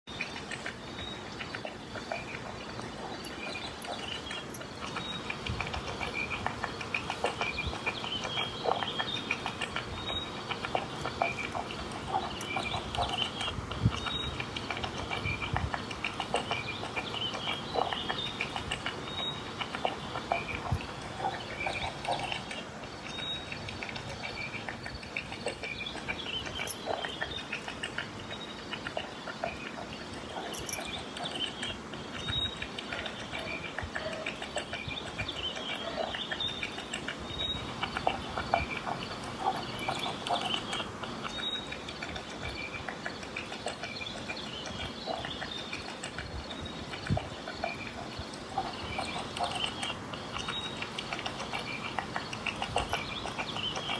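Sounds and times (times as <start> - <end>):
rabbit chewing greens: 0.1 - 53.9.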